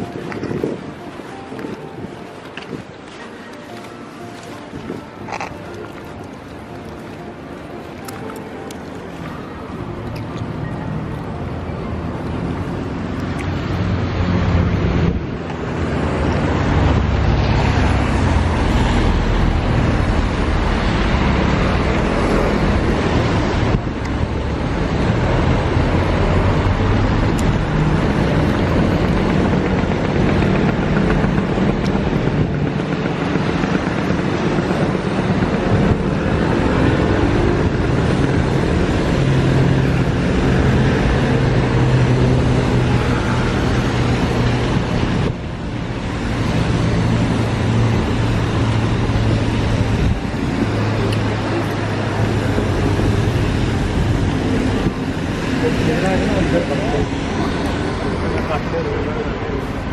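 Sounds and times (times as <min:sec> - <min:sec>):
cars driving on a wet street: 0:00.0 - 0:59.9.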